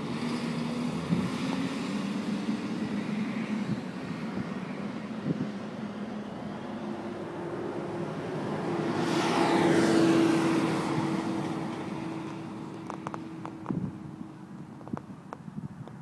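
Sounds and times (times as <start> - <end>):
tractor driving past: 0.0 - 14.8.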